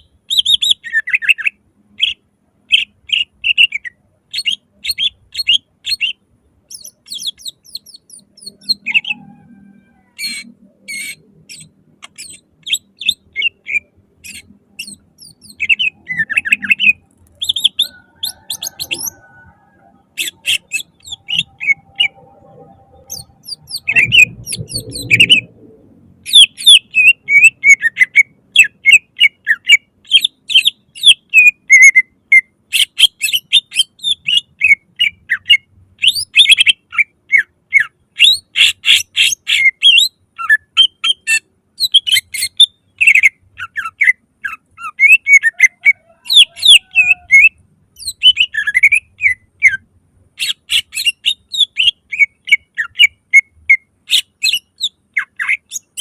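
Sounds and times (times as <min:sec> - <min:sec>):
bird singing chirps and whistles: 0:00.0 - 0:09.6, 0:10.2 - 0:25.5, 0:26.2 - 0:49.8, 0:50.4 - 0:56.0.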